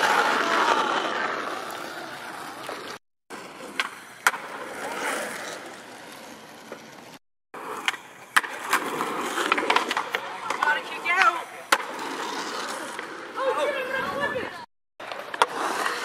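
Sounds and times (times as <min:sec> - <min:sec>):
skateboard clacks: 0:00.0 - 0:14.3, 0:15.0 - 0:16.0
skateboard wheels rolling on asphalt: 0:00.0 - 0:16.0.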